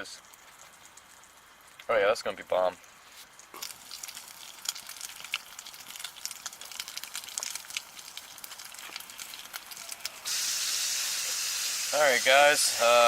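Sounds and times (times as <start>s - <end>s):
bacon frying with crackling pops: 0.0s - 13.0s.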